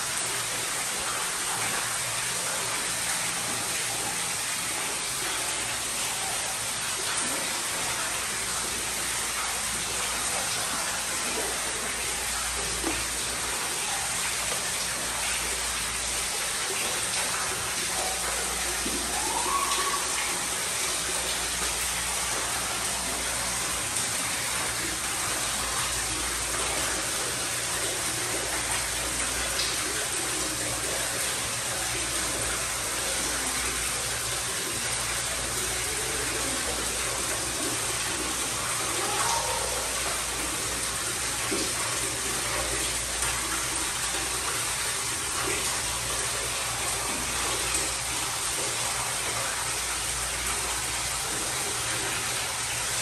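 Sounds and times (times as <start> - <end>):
running water rushing: 0.0 - 53.0.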